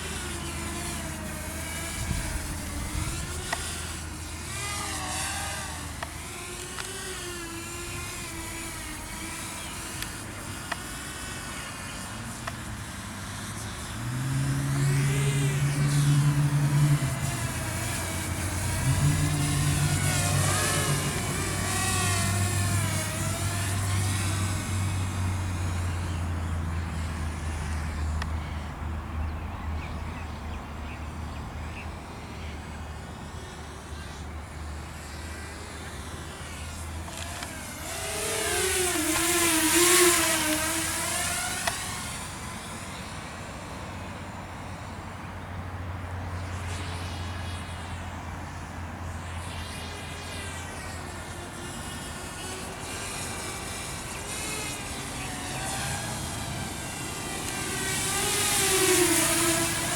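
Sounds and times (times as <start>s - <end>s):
drone motors whining: 0.0s - 59.9s
steady low hum: 0.0s - 59.9s.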